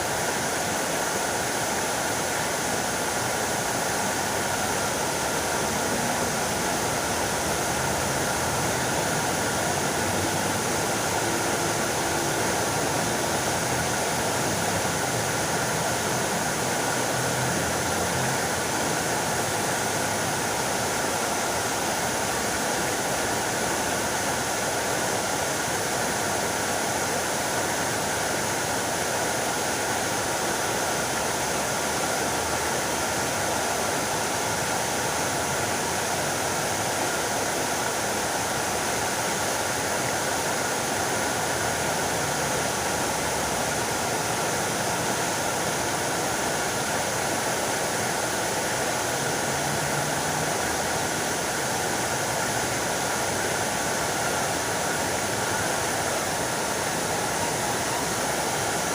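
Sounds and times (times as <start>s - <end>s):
fountain water splashing: 0.0s - 58.9s.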